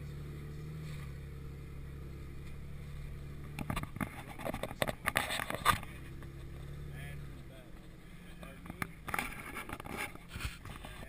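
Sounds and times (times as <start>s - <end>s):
car engine running: 0.0s - 11.0s
vehicle rattling and knocking: 0.0s - 11.0s.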